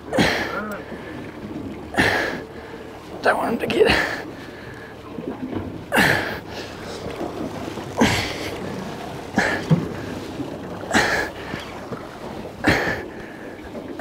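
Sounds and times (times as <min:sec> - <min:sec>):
sea noise: 0:00.0 - 0:14.0
wind: 0:00.0 - 0:14.0.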